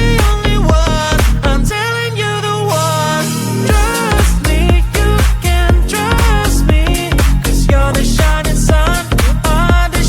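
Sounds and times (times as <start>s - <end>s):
pop dance music: 0.0s - 10.0s.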